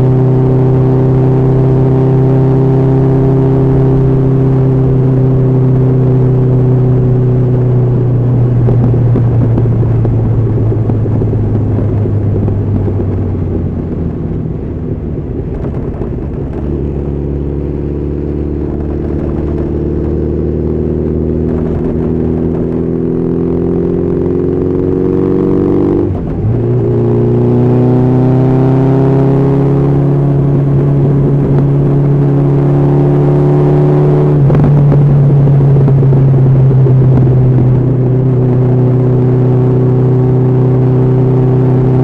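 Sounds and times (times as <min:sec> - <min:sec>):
motorcycle engine running under load: 0:00.0 - 0:42.0.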